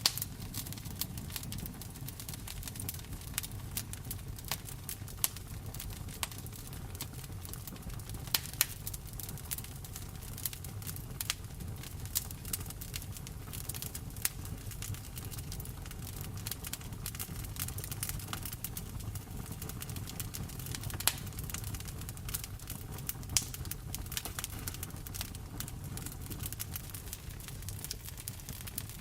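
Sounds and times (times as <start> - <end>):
fire pops and snaps: 0.0 - 29.0
wood fire crackling: 0.0 - 29.0.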